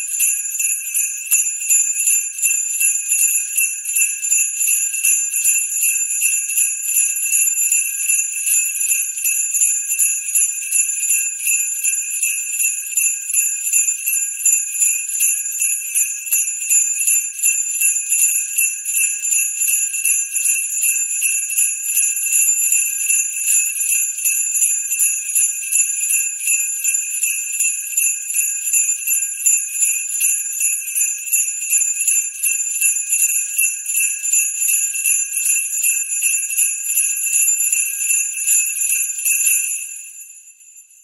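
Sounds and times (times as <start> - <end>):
sleigh bells jingling: 0.0 - 40.3.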